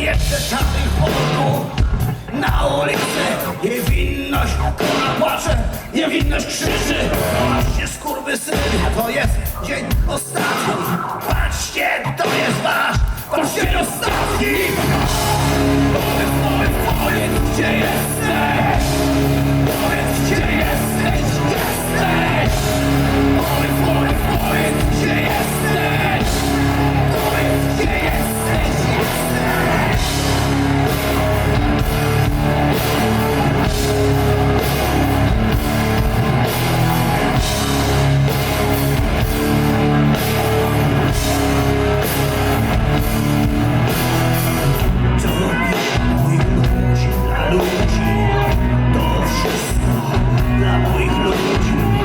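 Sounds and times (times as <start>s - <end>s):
bass: 0.0s - 52.0s
distorted guitars: 0.0s - 52.0s
drum kit: 0.0s - 52.0s
vocals: 0.0s - 52.0s.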